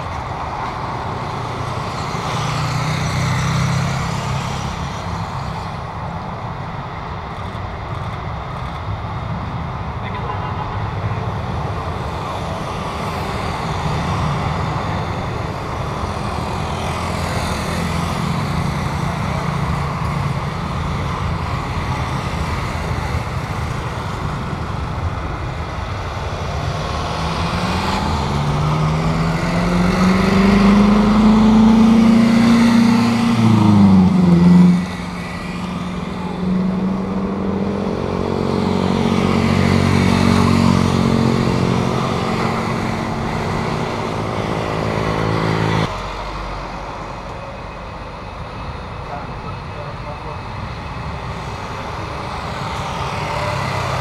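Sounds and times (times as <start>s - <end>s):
jet airliner engines passing: 0.0s - 54.0s.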